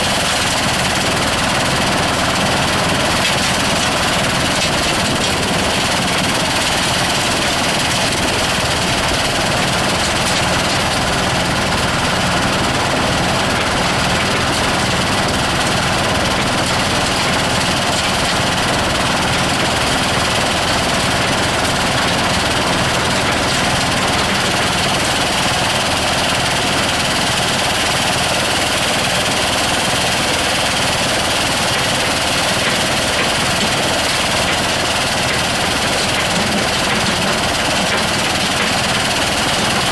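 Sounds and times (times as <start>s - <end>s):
soil screening machine running: 0.0s - 39.9s.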